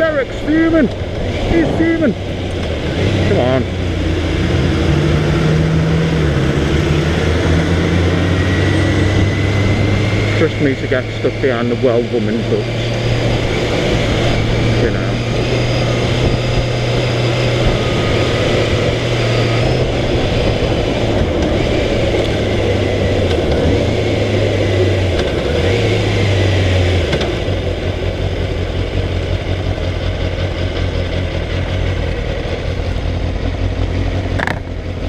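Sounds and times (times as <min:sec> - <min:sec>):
motorcycle engine revving: 0:00.0 - 0:35.0
wind and road noise: 0:00.0 - 0:35.0.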